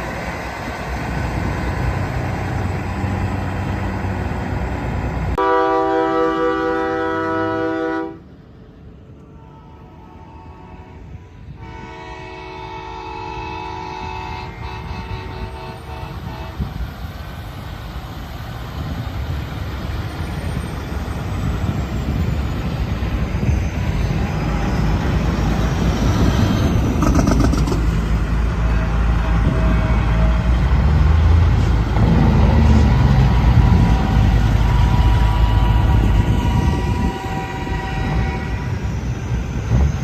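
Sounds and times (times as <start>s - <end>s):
heavy vehicle rumble: 0.0s - 40.0s.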